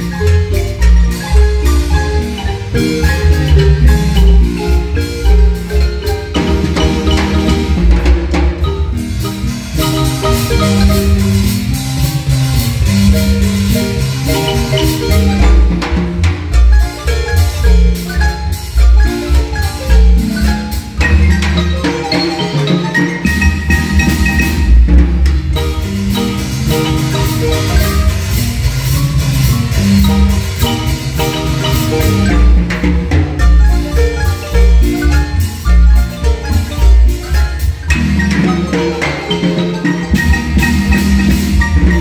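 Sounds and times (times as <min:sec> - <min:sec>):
marimba ensemble playing: 0:00.0 - 0:42.0.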